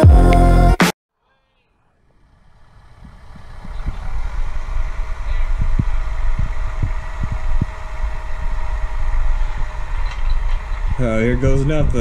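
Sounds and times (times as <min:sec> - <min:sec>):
diesel tractor engine idling: 0:02.0 - 0:12.0.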